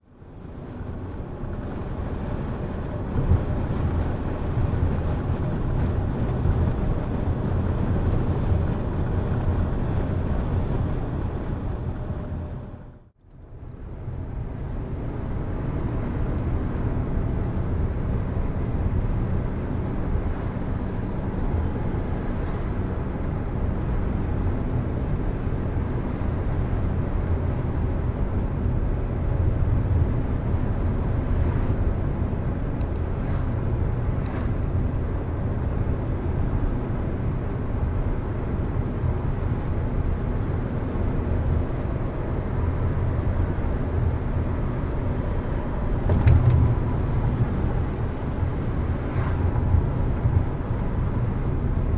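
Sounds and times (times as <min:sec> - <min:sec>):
car engine and tyre road noise: 0:00.0 - 0:51.9.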